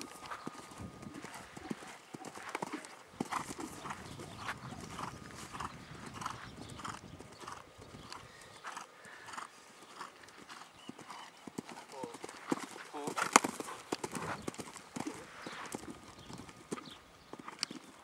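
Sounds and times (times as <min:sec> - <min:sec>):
horse hoofbeats on sand: 0:00.0 - 0:18.0.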